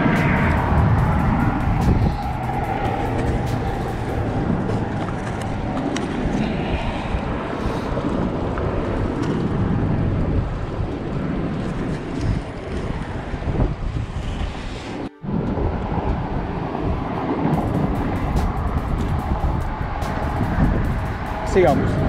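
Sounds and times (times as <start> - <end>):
choppy water: 0.0 - 22.0
wind buffeting microphone: 0.0 - 22.0.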